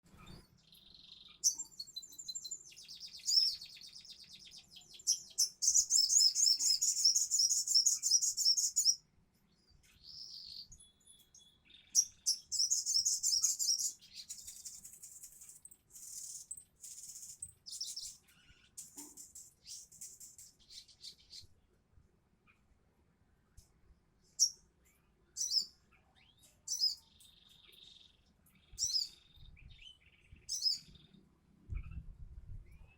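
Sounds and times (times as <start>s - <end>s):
bird singing in chattering trills: 0.1s - 9.0s, 9.9s - 21.5s, 24.4s - 24.6s, 25.3s - 32.9s.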